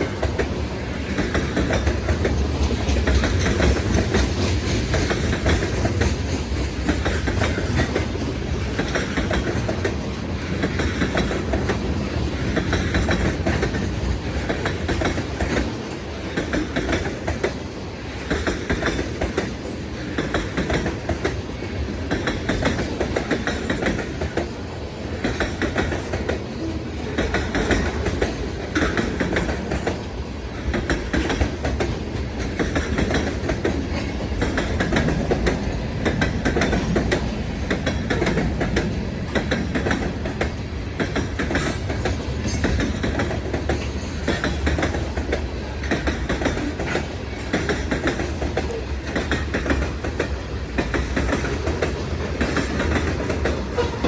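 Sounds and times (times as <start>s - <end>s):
freight train rumbling: 0.0s - 54.0s
wheels clicking over rail joints: 0.0s - 54.0s.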